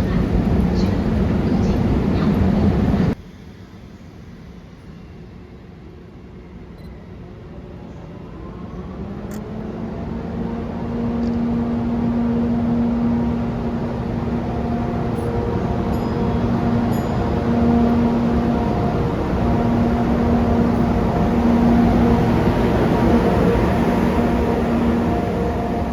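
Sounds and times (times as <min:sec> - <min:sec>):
electric locomotive running: 0:00.0 - 0:25.9.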